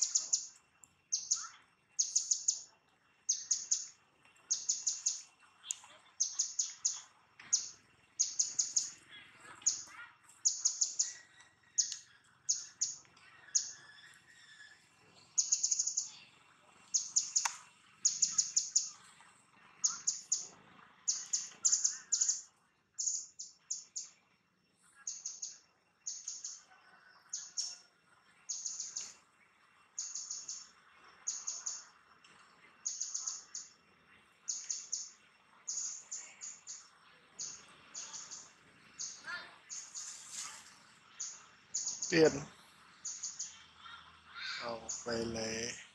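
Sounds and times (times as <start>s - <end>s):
bird chirping: 0.0s - 45.9s
faint background noise: 0.0s - 45.9s.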